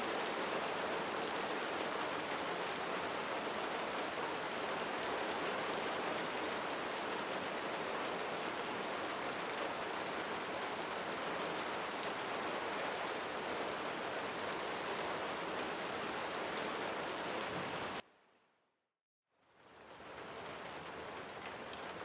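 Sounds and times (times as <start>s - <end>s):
rain falling on leaves: 0.0s - 18.0s, 19.5s - 22.0s.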